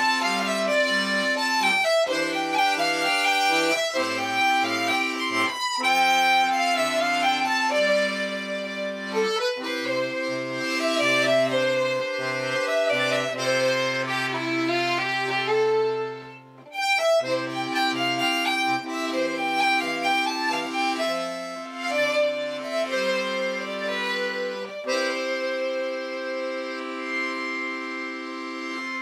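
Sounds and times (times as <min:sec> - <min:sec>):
accordion folk tune: 0:00.0 - 0:29.0.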